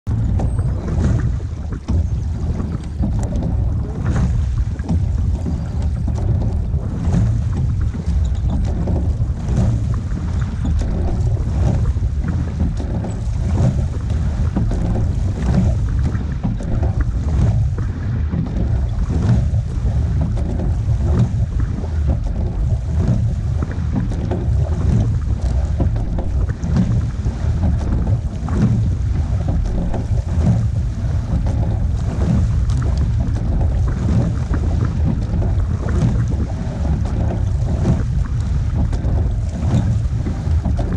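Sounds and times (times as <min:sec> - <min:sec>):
oars splashing: 0:00.0 - 0:40.9
water rushing along hull: 0:00.0 - 0:40.9
wind buffeting microphone: 0:00.0 - 0:40.9.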